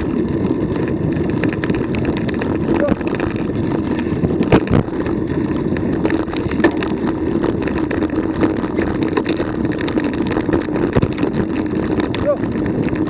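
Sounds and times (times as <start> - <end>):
wheels rolling over dirt trail: 0.0 - 13.0
wind on microphone: 0.0 - 13.0
knocks and rattles from bumps: 1.2 - 13.0.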